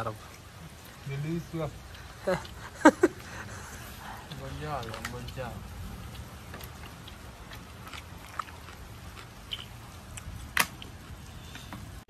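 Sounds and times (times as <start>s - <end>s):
soft chewing: 0.2s - 12.0s
steady low rumble: 1.7s - 12.0s.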